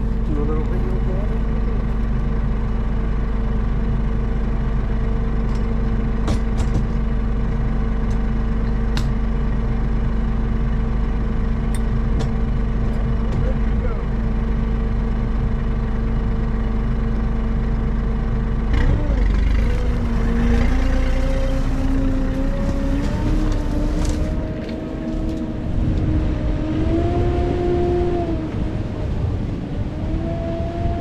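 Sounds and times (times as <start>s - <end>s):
vehicle engine running under load: 0.0s - 31.0s.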